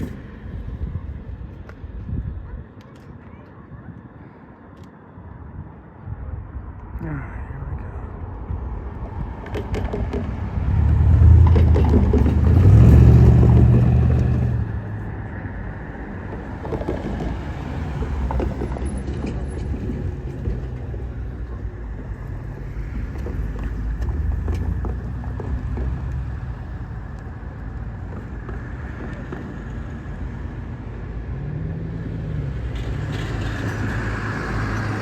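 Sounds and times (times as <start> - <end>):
train rumbling: 0.0 - 2.6, 7.8 - 35.0.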